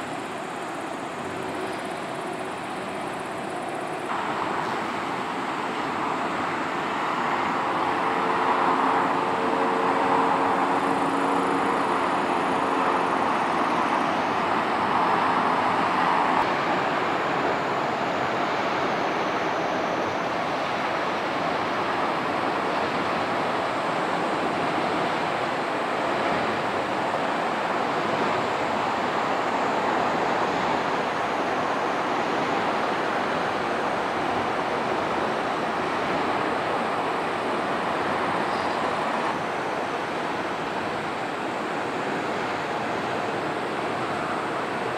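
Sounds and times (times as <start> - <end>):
distant road traffic roar: 0.0 - 44.9.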